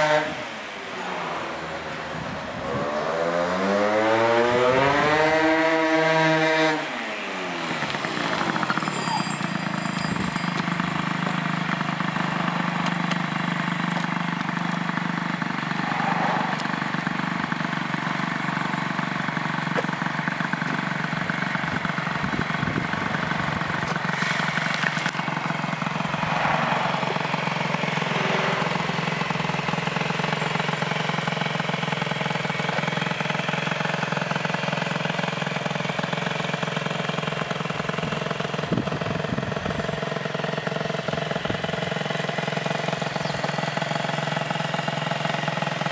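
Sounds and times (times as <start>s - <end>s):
moped engine idling: 0.0s - 45.9s.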